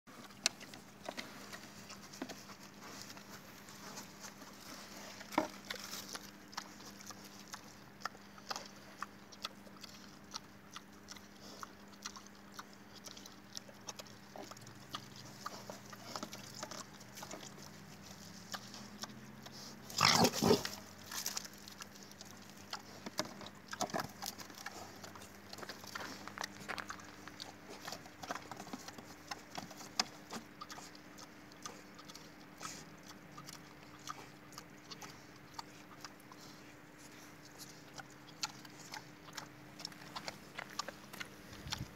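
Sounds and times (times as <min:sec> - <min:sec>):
boar rooting and eating: 0:00.1 - 0:41.9.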